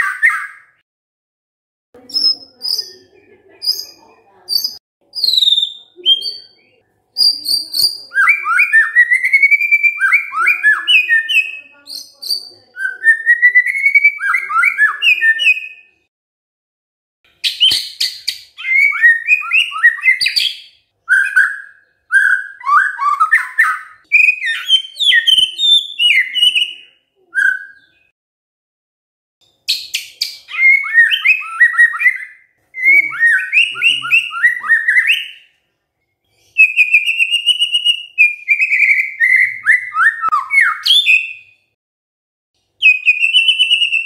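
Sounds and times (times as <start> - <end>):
bird singing whistled phrases: 0.0 - 0.8, 2.1 - 3.0, 3.7 - 6.6, 7.2 - 15.9, 17.4 - 28.1, 29.7 - 35.5, 36.5 - 41.7, 42.8 - 44.0.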